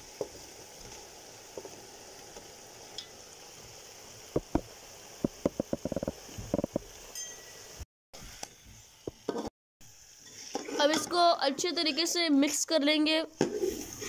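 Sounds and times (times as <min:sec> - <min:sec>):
oil sizzling in a pot: 0:00.0 - 0:14.0.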